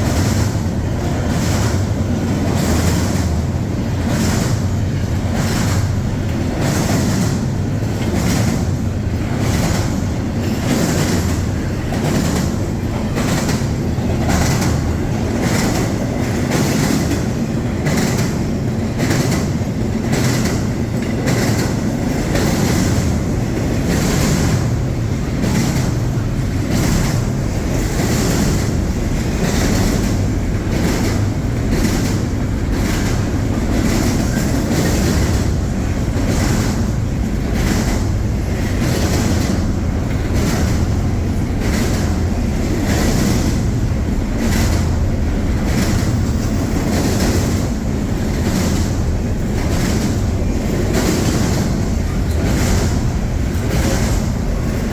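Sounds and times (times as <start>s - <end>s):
train wheels clacking on rail joints: 0.0s - 54.9s.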